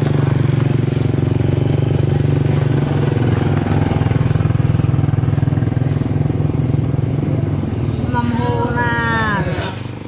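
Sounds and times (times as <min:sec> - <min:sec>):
small engine running: 0:00.0 - 0:08.8.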